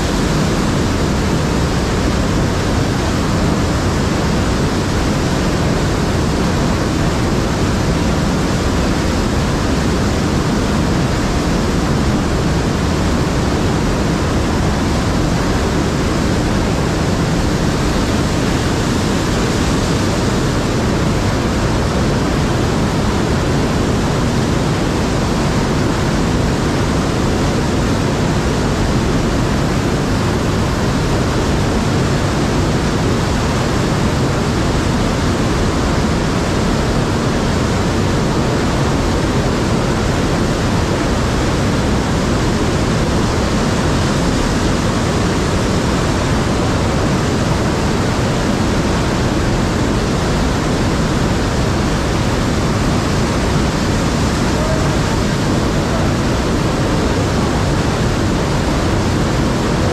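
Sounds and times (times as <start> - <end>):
white water rushing: 0.0 - 59.9.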